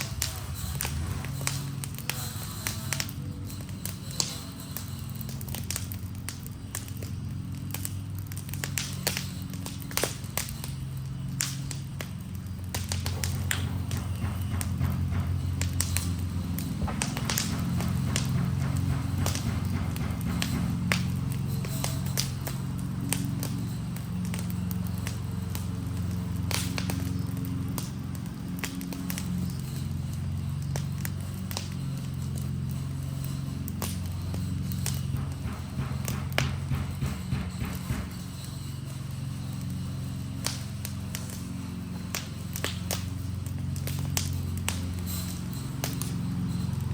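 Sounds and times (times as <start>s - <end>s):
steady low hum: 0.0s - 46.9s
wood fire crackling and popping: 0.0s - 46.9s.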